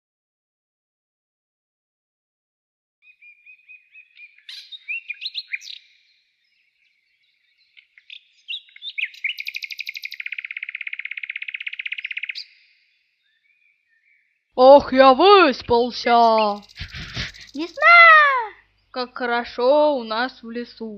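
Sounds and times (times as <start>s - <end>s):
songbird chirping and trilling: 3.0s - 20.9s.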